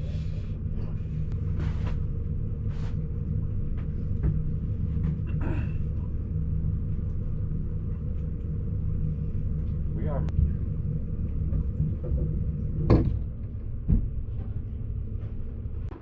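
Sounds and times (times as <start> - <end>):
boat motor droning: 0.0 - 16.0.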